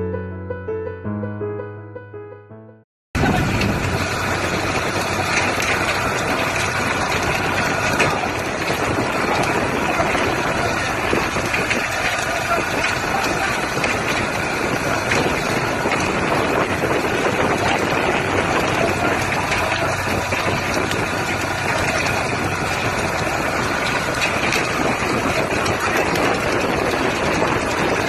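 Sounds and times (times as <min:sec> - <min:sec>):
boat engine idling: 0:03.2 - 0:28.0.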